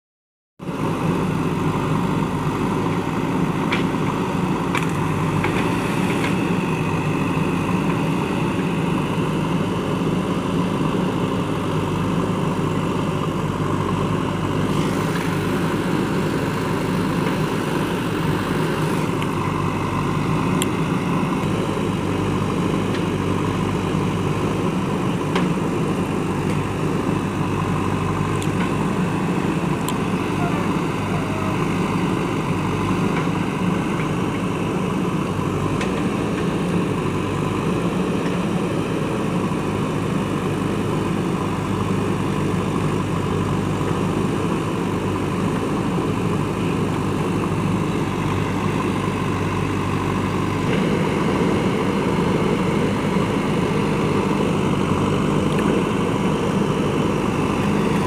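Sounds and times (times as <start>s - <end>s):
diesel engine running: 0.6s - 58.0s.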